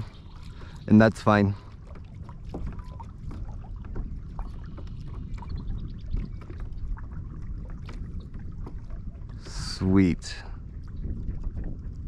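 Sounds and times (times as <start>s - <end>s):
water splashing against kayak hull: 0.0s - 12.0s.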